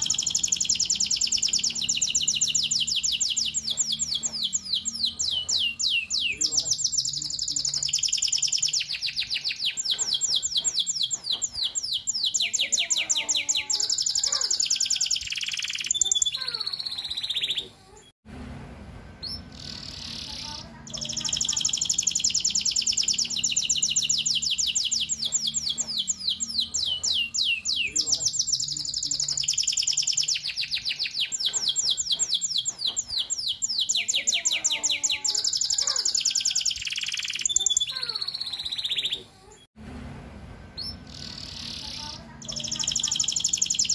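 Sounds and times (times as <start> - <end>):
canary singing trills: 0.0 - 18.1, 19.2 - 39.7, 40.8 - 43.9.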